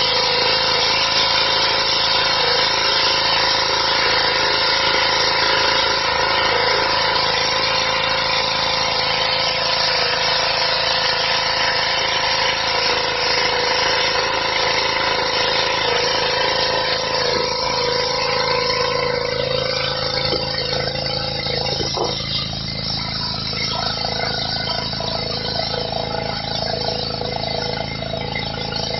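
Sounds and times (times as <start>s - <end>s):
pressure washer engine running: 0.0s - 28.9s
water jet hissing on stone: 0.0s - 28.9s.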